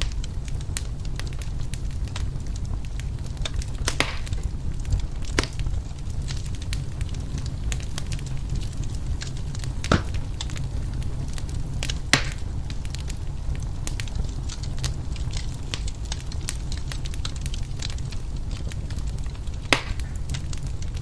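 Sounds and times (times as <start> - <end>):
loud fire pops: 0.0 - 21.0
steady low rumble: 0.0 - 21.0
wood fire crackling: 0.0 - 21.0.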